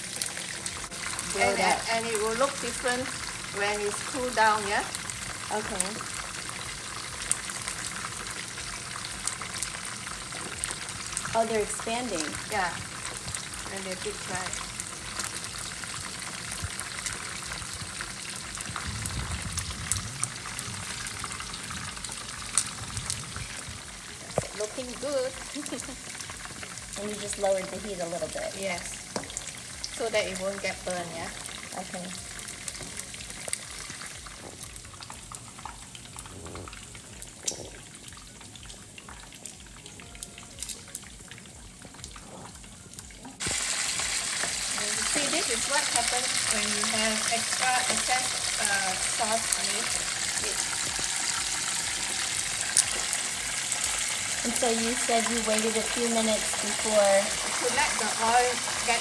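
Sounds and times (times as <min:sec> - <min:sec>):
deep-frying in hot oil: 0:00.0 - 0:59.0
hot oil spitting: 0:00.0 - 0:59.0.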